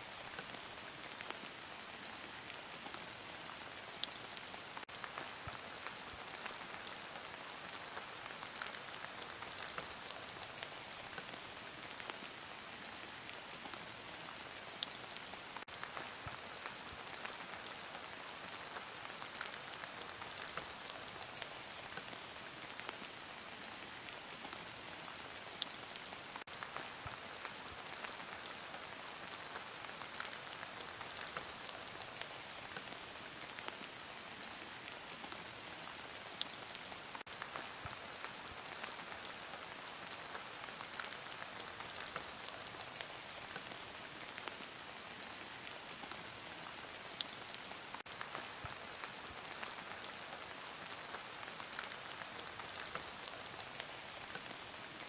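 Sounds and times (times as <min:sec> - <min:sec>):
heavy rain falling: 0:03.4 - 0:55.0.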